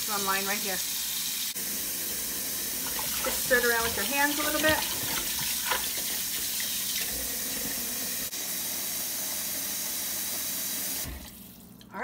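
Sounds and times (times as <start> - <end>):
faucet running into a pot: 0.8 - 11.7.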